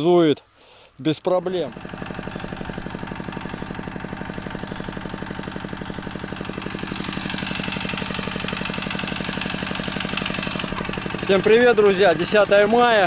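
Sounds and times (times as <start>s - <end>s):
tractor engine idling: 1.3s - 13.0s.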